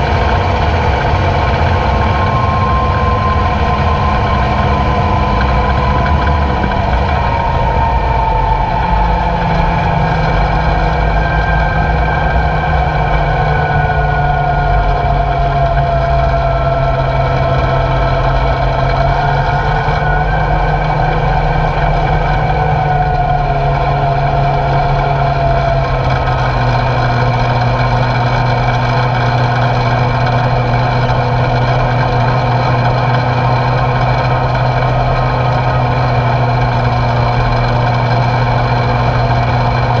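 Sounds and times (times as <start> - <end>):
high whine: 0.0 - 40.0
truck engine running: 0.0 - 40.0.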